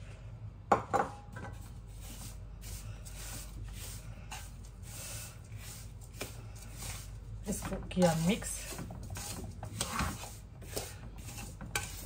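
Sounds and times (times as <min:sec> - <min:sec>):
spoon scraping dry mixture in pot: 0:01.5 - 0:12.0.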